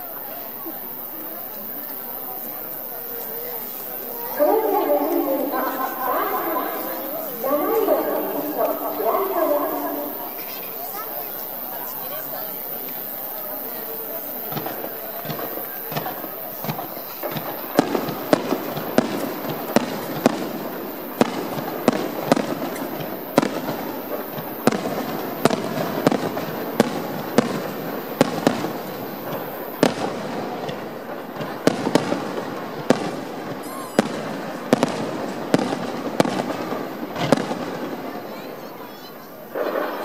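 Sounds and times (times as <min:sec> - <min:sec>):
fireworks bursting bangs: 0:00.0 - 0:40.0
steady background noise: 0:00.0 - 0:40.0.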